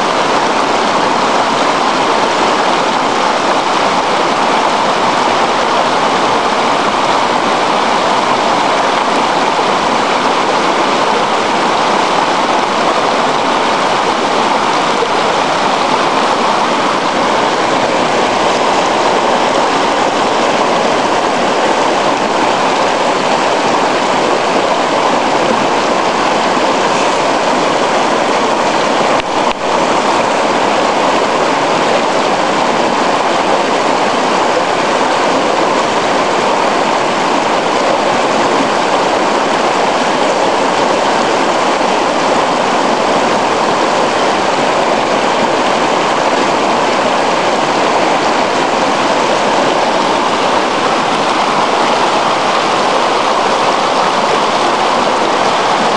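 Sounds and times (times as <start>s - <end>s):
river rushing over stones: 0.0s - 55.9s.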